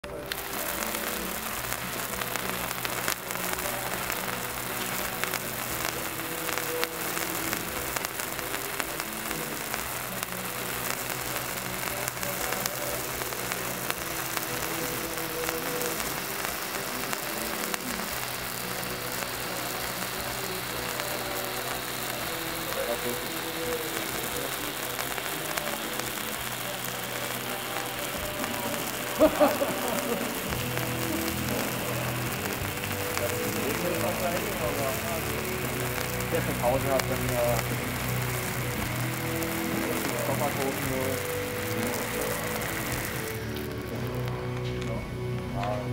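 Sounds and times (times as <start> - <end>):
firework sparks hissing: 0.0 - 45.9.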